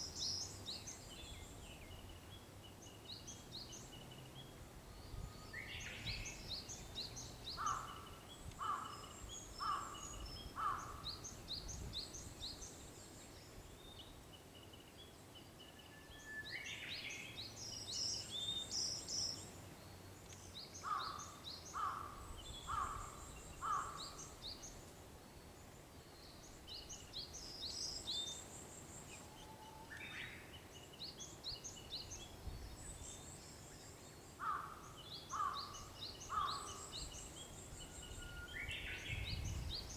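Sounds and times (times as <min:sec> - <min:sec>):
bush warbler whistled song: 0:00.0 - 0:24.9, 0:25.5 - 0:39.9.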